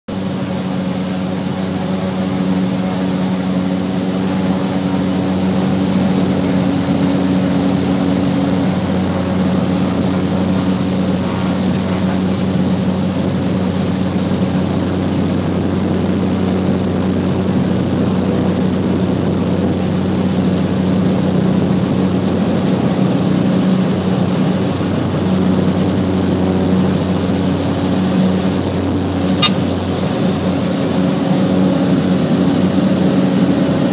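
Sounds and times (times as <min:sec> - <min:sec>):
propeller drone: 0:00.1 - 0:33.9.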